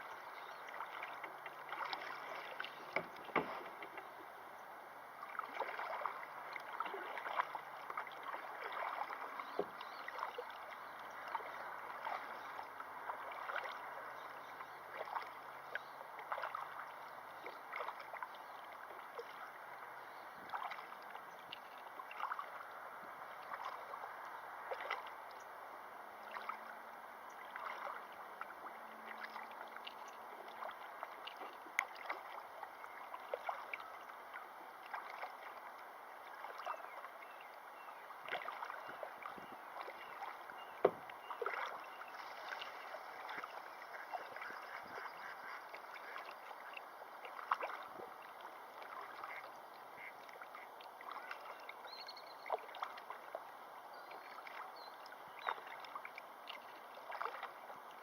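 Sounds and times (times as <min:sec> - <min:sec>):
river water flowing: 0:00.0 - 0:58.0
water splashing and gurgling: 0:00.0 - 0:58.0.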